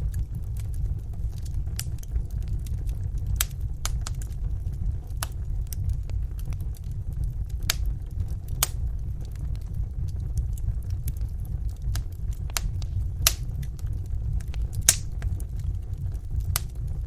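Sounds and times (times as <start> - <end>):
fire crackling and popping: 0.0 - 17.0
fire rumbling in a fireplace: 0.0 - 17.0.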